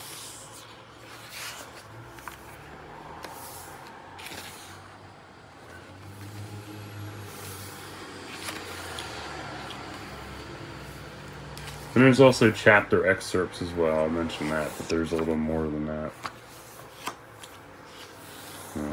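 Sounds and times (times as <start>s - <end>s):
book pages turning: 0.0s - 12.6s, 13.9s - 18.9s.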